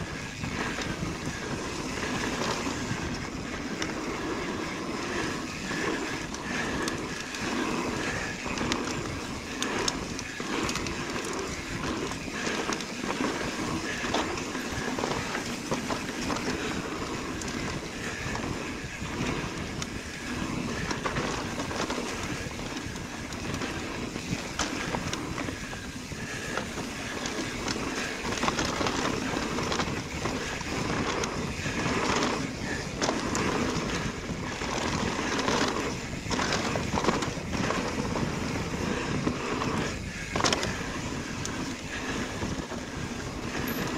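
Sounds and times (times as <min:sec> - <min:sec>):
bike clicks and rattles: 0:00.0 - 0:43.9
bike tyres on dirt and gravel: 0:00.0 - 0:43.9.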